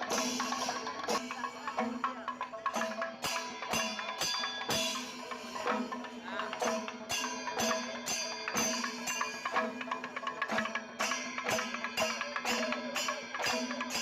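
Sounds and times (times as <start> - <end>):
music with percussion: 0.0 - 14.0.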